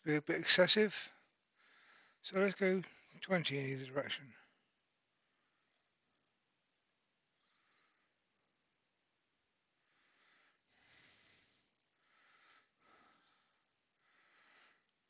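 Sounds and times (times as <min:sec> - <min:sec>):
faint soft hissing: 0:00.0 - 0:15.0.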